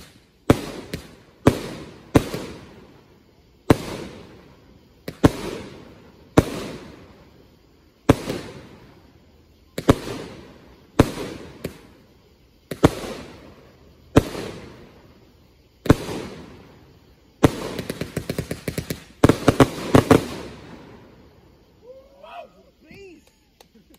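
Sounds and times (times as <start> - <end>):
firework bangs echoing: 0.0 - 21.6
rapid small firework reports: 0.0 - 23.9.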